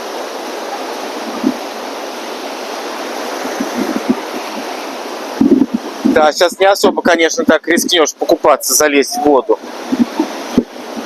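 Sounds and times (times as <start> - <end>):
rough sea surf: 0.0 - 11.0
strong wind: 0.0 - 11.0
wind buffeting microphone: 0.0 - 11.0.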